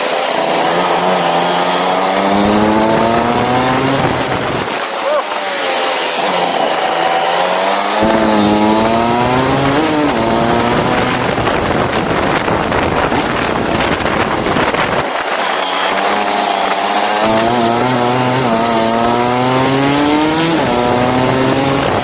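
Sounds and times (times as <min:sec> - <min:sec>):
go-kart engine buzzing: 0:00.0 - 0:22.0.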